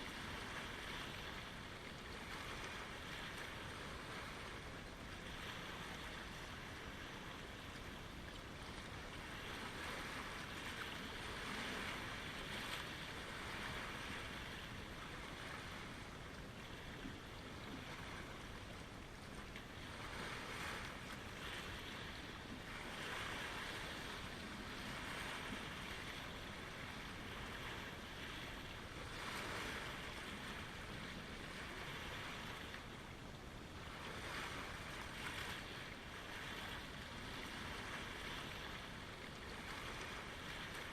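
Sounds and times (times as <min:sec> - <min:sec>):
lake waves lapping: 0:00.0 - 0:40.9.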